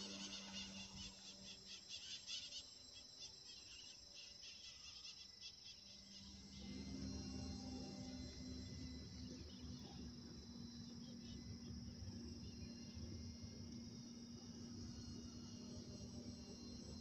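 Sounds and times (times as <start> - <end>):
distant model airplane engine: 0.0 - 17.0
insect chirps: 0.0 - 17.0.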